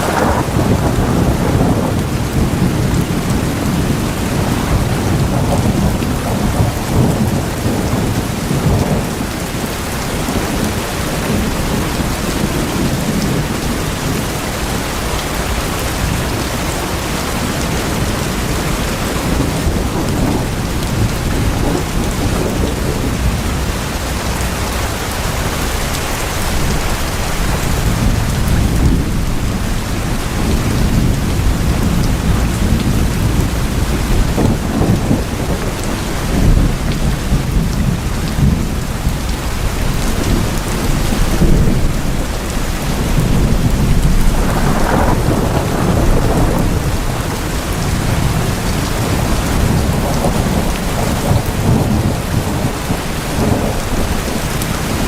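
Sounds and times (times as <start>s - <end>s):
heavy rain on tin sheeting: 0.0s - 55.0s.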